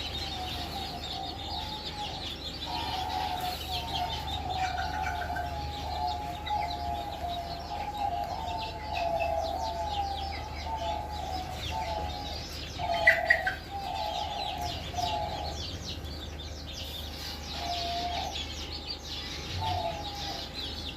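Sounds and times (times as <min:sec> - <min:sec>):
chickens clucking and calling: 0:00.0 - 0:20.9.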